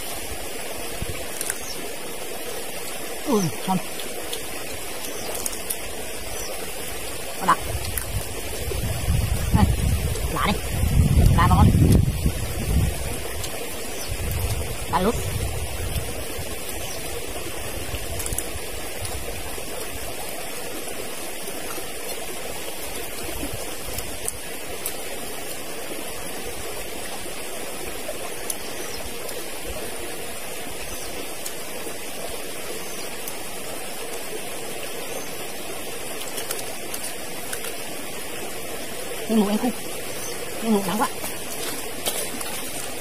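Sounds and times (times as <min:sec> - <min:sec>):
stream running: 0:00.0 - 0:43.0.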